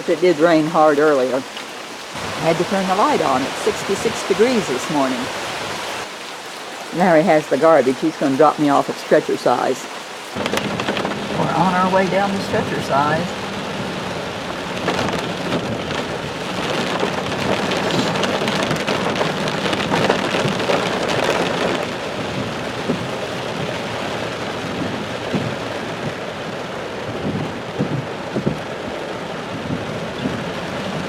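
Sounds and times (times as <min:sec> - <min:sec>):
heavy rain on a car: 0:00.0 - 0:07.1, 0:09.9 - 0:31.0.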